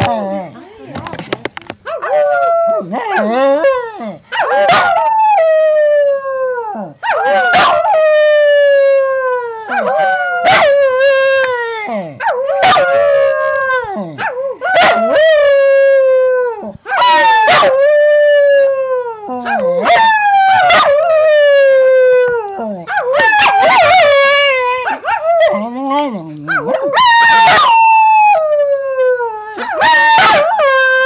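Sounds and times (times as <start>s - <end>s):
dog howling: 1.8s - 31.0s.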